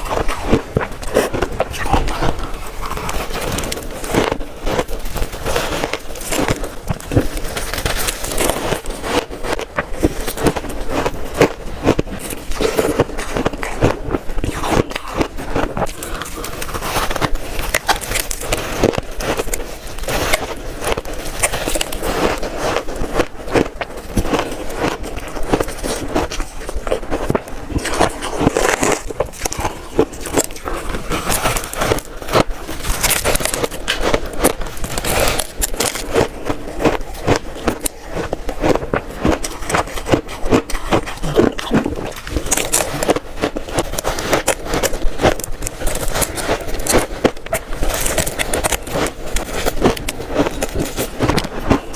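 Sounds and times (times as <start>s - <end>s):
shaved ice being chewed: 0.0s - 51.9s.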